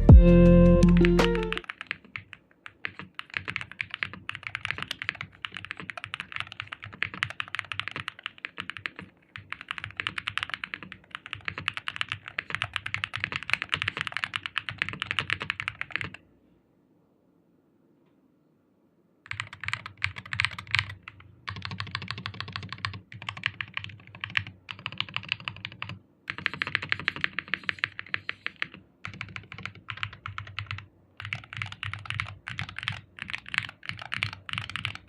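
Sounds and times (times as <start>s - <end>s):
fast typing on keyboard: 0.9s - 16.2s, 19.3s - 35.0s.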